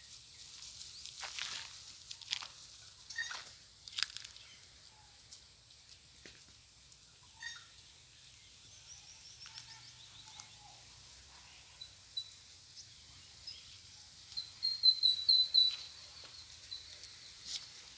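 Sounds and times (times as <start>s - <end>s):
small bird chirping: 0.3s - 5.3s, 6.9s - 17.9s.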